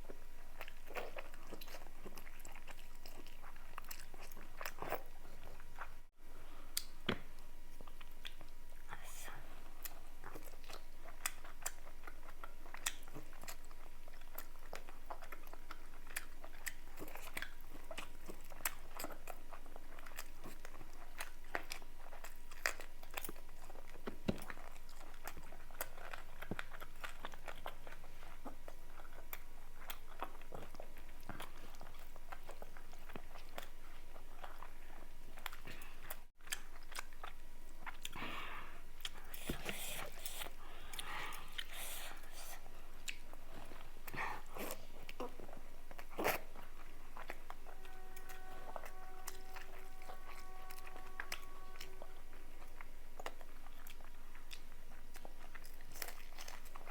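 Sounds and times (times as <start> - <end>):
chewing and biting: 0.0 - 6.1, 6.7 - 56.9.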